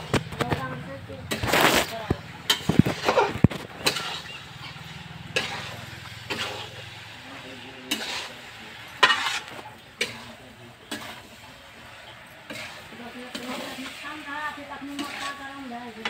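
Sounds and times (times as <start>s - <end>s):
faint food sizzle: 0.0s - 16.0s
metal spatula scraping pan: 0.0s - 16.0s.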